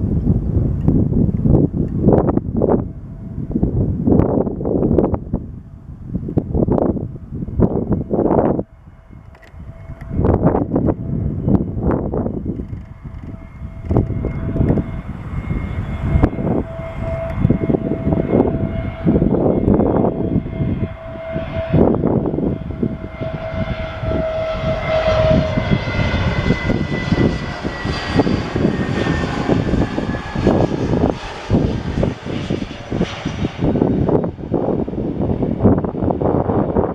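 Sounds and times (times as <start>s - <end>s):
jet engines whining: 0.0s - 36.9s
wind buffeting microphone: 0.0s - 36.9s.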